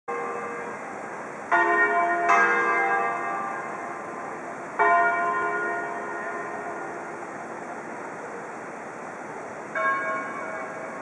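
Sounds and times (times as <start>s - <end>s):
church bells ringing: 0.1s - 8.3s, 9.7s - 11.0s.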